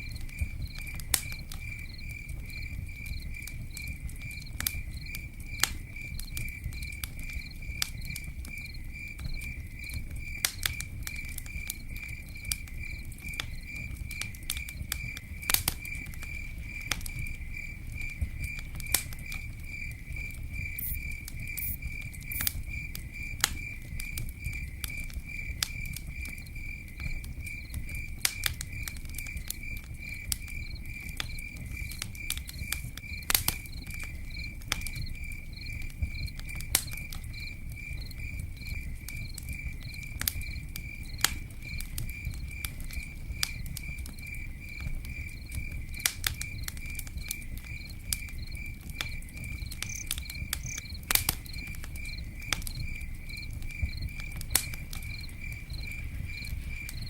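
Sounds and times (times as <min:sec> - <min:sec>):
campfire crackling and popping: 0:00.0 - 0:57.0
insect chirping: 0:00.0 - 0:57.0.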